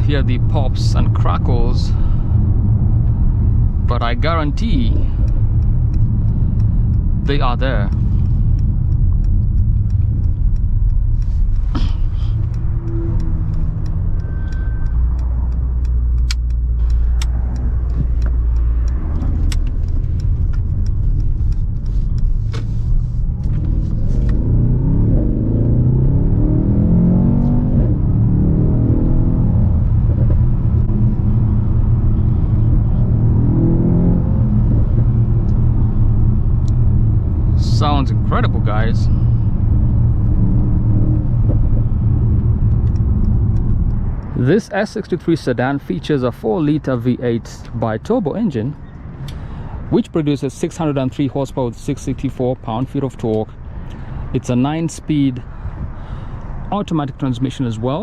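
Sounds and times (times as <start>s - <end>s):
car engine driving: 0.0s - 58.0s.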